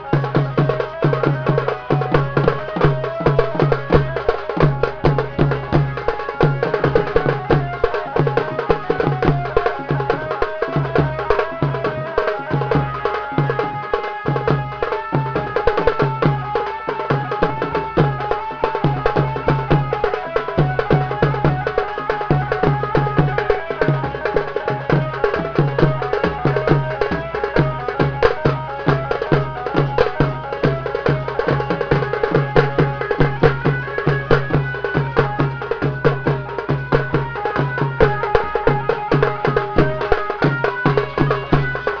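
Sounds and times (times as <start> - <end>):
folk melody: 0.0 - 42.0
large drums beating fast rhythm: 0.0 - 42.0.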